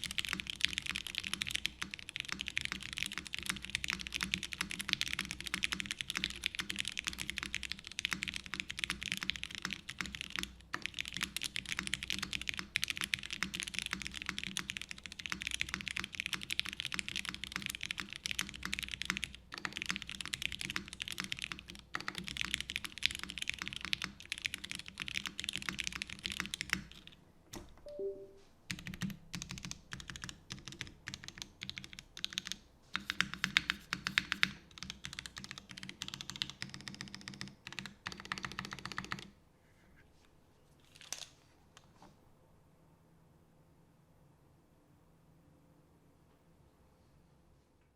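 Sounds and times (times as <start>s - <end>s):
mechanical keyboard typing: 0.0s - 39.3s.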